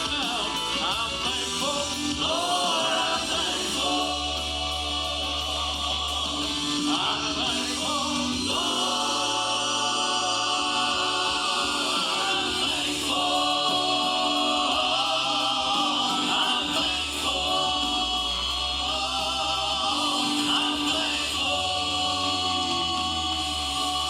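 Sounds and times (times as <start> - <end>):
vocal group singing gospel: 0.0 - 24.0.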